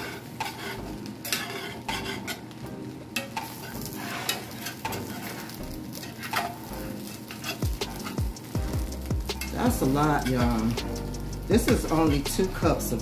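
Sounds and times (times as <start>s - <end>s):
food sizzling: 0.0s - 13.0s
spatula scraping skillet: 0.0s - 13.0s.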